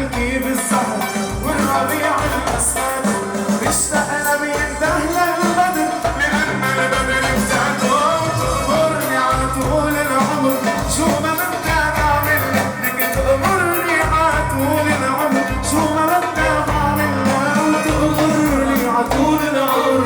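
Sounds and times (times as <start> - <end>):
man singing: 0.0 - 20.0
upbeat band backing: 0.0 - 20.0.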